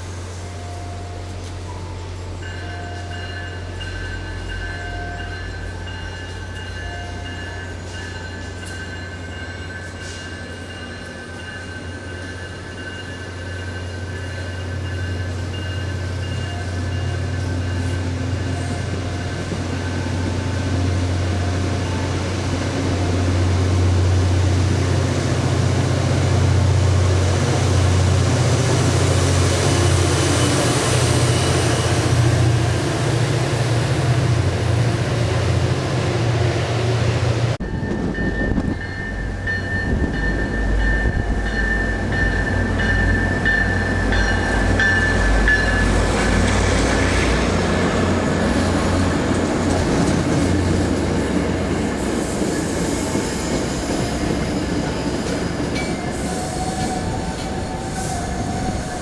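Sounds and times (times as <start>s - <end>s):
train rumbling by: 0.0s - 59.0s.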